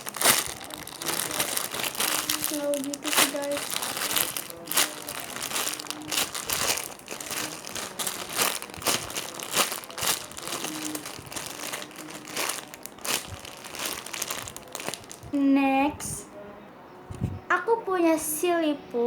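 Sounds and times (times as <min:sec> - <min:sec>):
plastic crinkling: 0:00.0 - 0:15.4.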